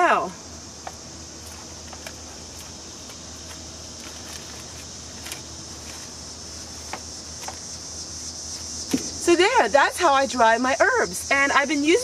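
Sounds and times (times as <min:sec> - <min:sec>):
insects chirring: 0:00.0 - 0:12.0
leaves rustling: 0:00.8 - 0:10.5.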